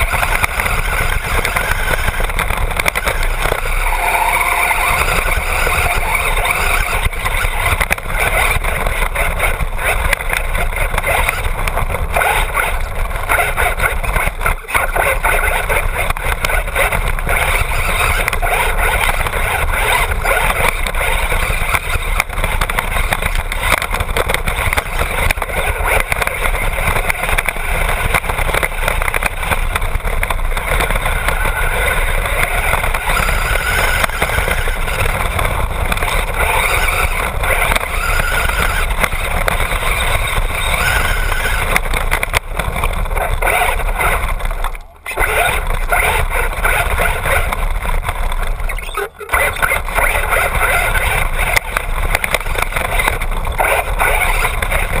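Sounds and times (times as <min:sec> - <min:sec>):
chassis shaking: 0:00.0 - 0:55.0
tyres rumbling over dirt: 0:00.0 - 0:55.0.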